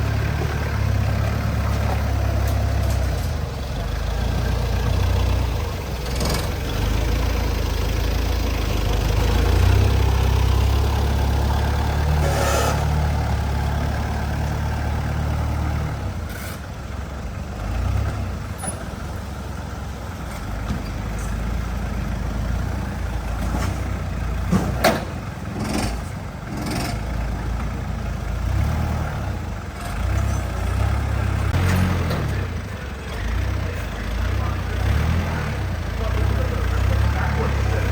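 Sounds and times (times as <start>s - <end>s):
truck engine rumbling: 0.0s - 37.9s.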